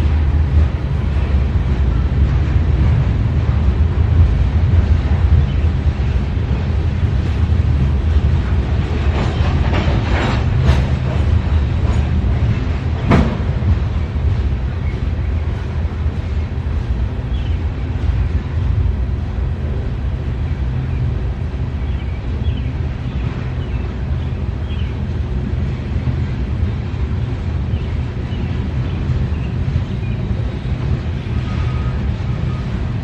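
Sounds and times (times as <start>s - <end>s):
train clicks: 0.0s - 33.0s
train wheels rumbling on rail: 0.0s - 33.0s.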